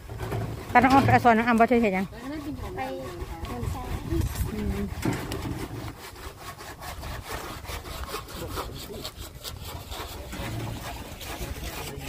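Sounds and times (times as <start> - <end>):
hand saw cutting wood: 0.0 - 12.0.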